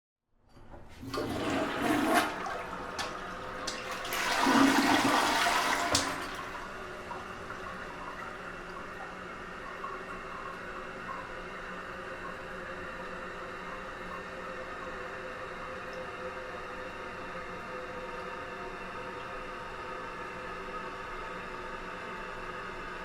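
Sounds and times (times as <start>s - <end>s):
toilet flushing: 0.6s - 21.1s.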